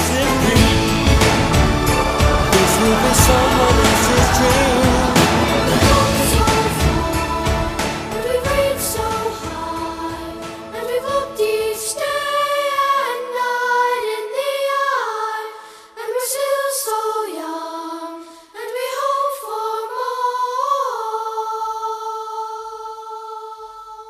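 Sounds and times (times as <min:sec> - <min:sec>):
layered wordless vocals: 0:00.0 - 0:24.0.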